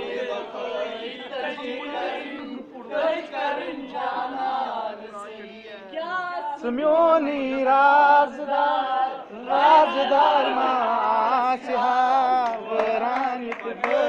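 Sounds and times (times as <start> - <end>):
young men singing in chorus: 0.0 - 14.0.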